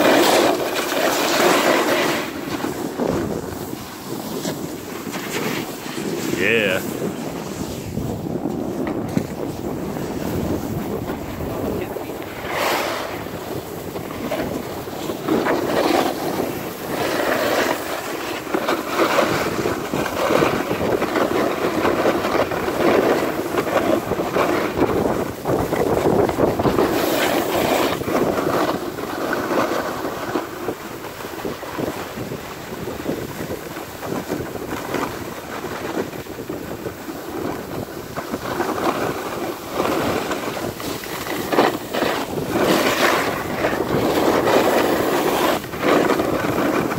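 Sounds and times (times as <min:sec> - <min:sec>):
skis sliding over packed snow: 0:00.0 - 0:46.9
wind rushing over microphone: 0:00.0 - 0:46.9.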